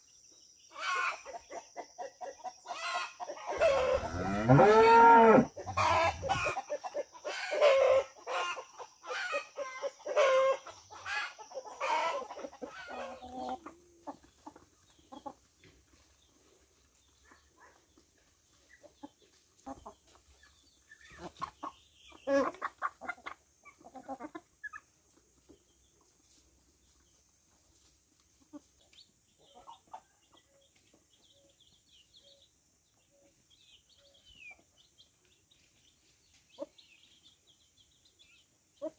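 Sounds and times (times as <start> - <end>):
chickens clucking: 0.6 - 38.9
chicks peeping: 0.7 - 4.2, 5.6 - 38.9.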